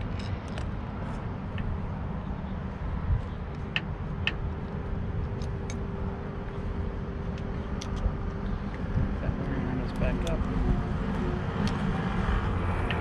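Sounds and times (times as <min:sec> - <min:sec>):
faint steady hum: 0:00.0 - 0:13.0
steady low rumble: 0:00.0 - 0:13.0.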